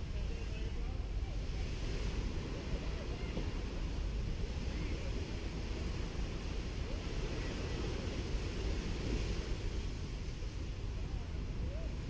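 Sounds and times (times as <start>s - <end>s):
small waves washing onto beach: 0.0s - 12.0s
wind rumble on microphone: 0.0s - 12.0s.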